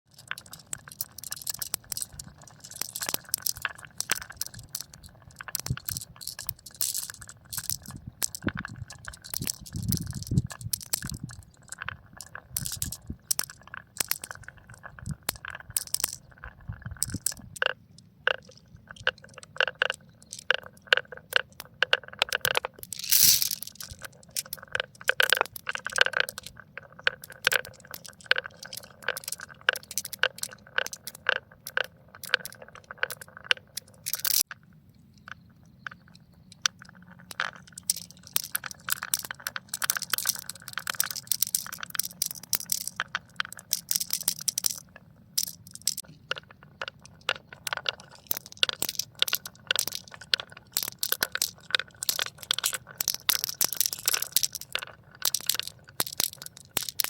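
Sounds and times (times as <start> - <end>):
small hard objects clinking: 0.1 - 34.5, 35.2 - 57.0.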